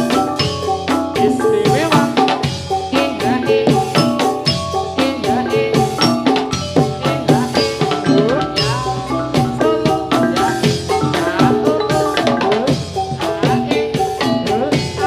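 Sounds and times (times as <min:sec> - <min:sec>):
drum strokes: 0:00.0 - 0:15.0
metallophones ringing a melody: 0:00.0 - 0:15.0.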